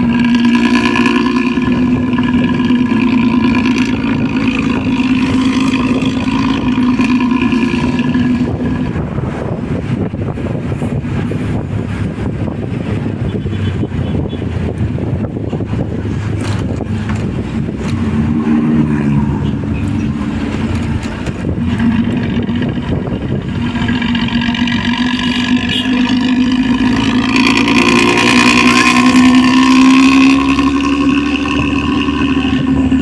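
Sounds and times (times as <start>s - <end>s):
diesel bus engine growling: 0.0s - 33.0s.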